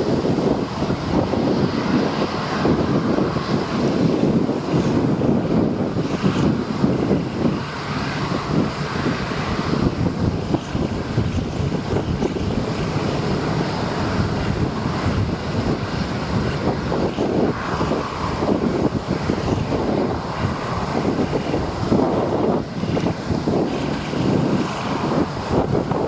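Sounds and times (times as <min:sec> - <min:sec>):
jet engines rumbling: 0:00.0 - 0:26.0
wind buffeting microphone: 0:00.0 - 0:26.0.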